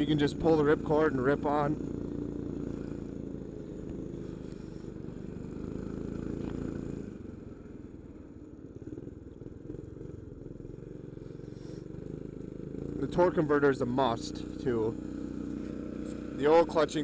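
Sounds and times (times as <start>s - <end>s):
minibike engine revving: 0.0s - 8.2s, 8.8s - 17.0s.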